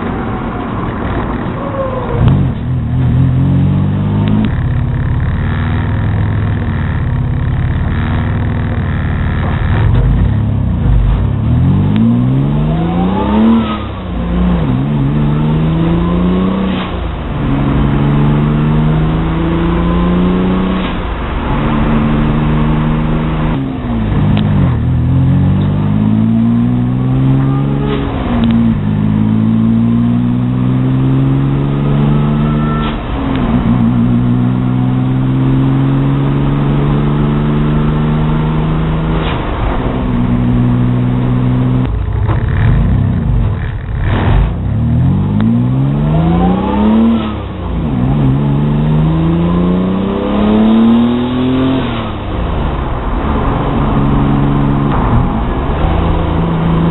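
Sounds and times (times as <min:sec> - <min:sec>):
engine revving: 0:00.0 - 0:56.9.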